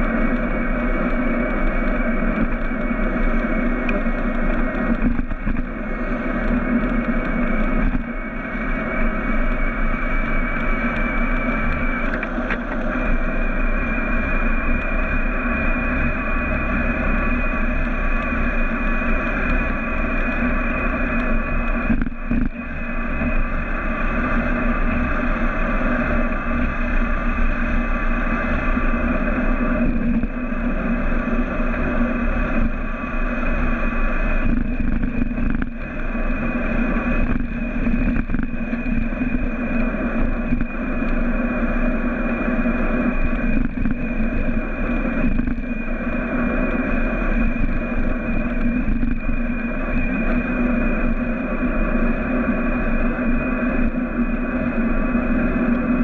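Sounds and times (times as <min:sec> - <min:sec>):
electric motor whine: 0:00.0 - 0:56.0
wind and tyre noise: 0:00.0 - 0:56.0.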